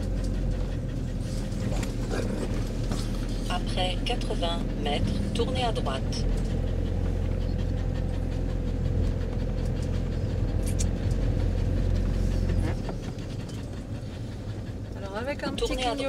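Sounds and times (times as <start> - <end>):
engine and road noise rumble: 0.0 - 16.0.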